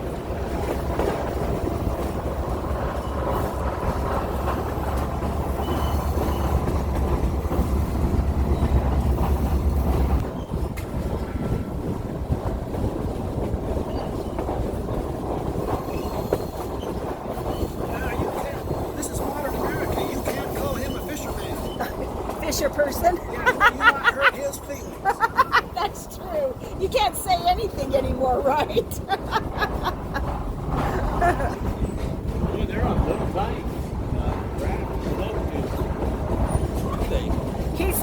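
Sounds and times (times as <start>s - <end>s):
train car rumbling on track: 0.0s - 38.0s.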